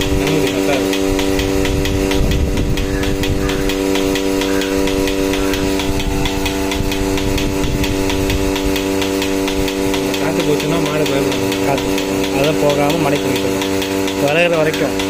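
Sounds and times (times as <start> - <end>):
milking machine motor humming: 0.0 - 15.0
rapid regular clicking: 0.0 - 15.0.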